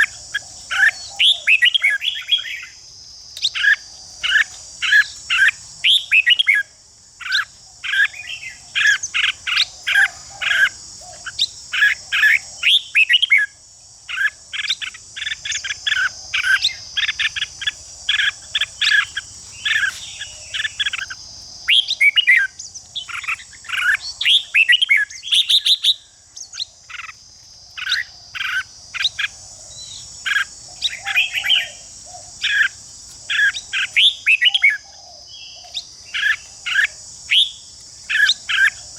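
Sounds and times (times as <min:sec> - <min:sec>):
birds chirping: 0:00.0 - 0:13.4, 0:14.1 - 0:38.9
high-pitched insect buzz: 0:00.0 - 0:38.9.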